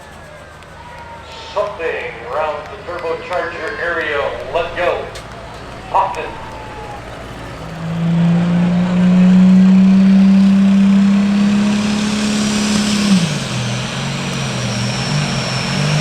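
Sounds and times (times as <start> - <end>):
diesel engine running under load: 0.0 - 16.0
turbo whine: 0.0 - 16.0.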